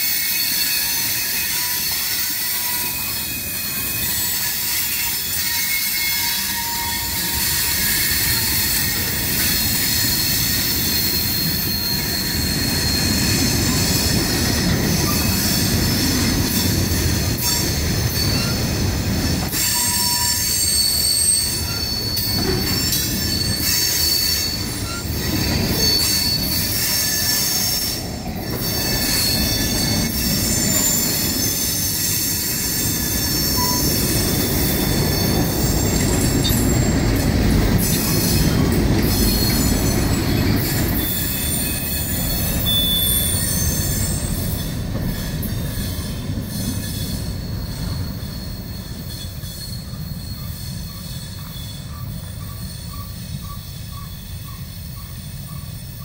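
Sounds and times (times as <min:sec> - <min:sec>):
train rumble: 0:00.0 - 0:56.0
train wheels squealing on rails: 0:00.0 - 0:56.0.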